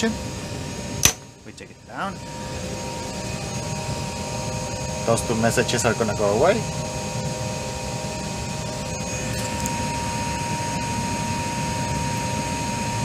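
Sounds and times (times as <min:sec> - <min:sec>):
cockpit systems hum and hiss: 0:00.0 - 0:13.0
steady high tone: 0:01.8 - 0:13.0.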